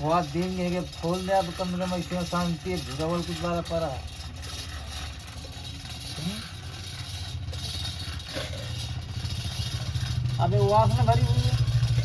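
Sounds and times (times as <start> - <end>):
engine running with low pulsing: 0.0 - 12.0.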